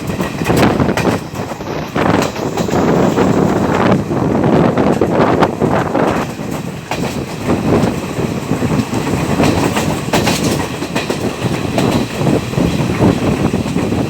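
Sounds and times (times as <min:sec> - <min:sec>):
train rumbling along rails: 0:00.0 - 0:14.0
wheels clattering over rail joints: 0:00.0 - 0:14.0.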